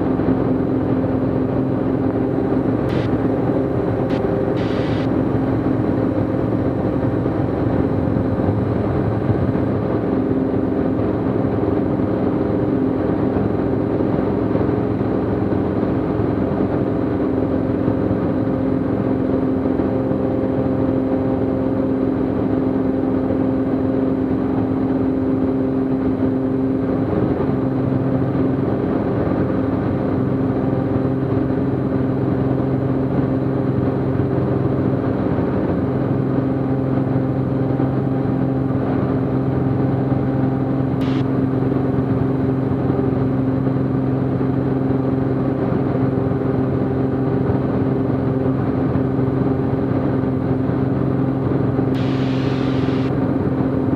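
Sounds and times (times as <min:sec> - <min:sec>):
aircraft engine and propeller: 0:00.0 - 0:53.9.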